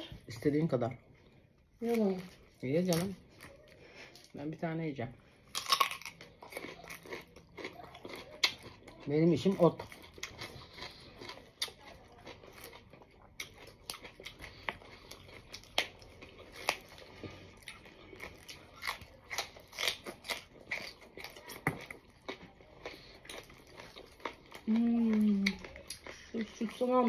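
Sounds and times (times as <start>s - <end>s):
person chewing crisp vegetables: 5.2s - 27.0s.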